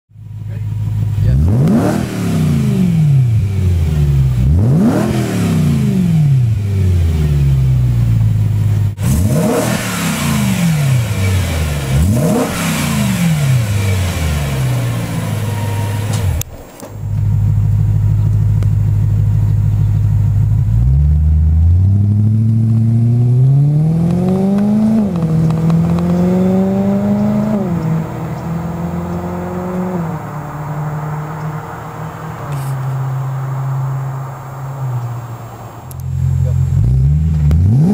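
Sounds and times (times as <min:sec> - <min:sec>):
car engine revving and idling: 0:00.1 - 0:37.9.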